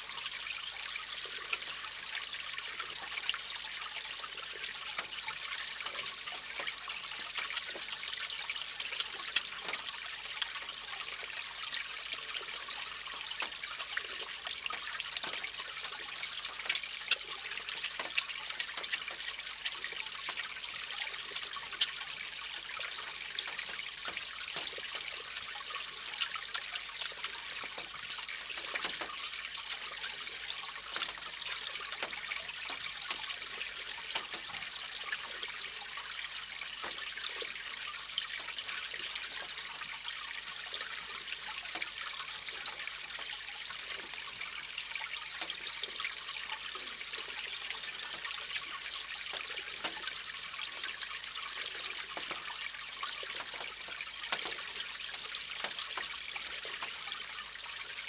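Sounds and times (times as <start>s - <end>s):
water trickling over stones: 0.0s - 58.0s.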